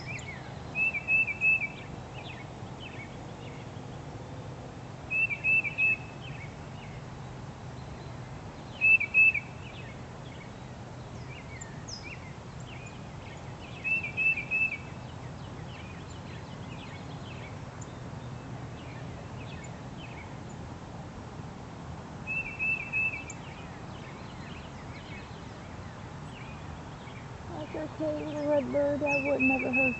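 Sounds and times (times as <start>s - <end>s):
faint songbird chirps: 0.0s - 4.1s, 5.1s - 20.7s, 22.2s - 29.9s.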